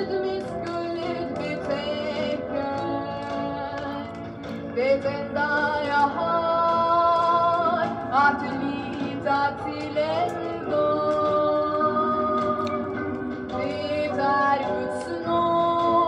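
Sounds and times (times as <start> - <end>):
woman singing: 0.0 - 12.9, 13.5 - 16.0.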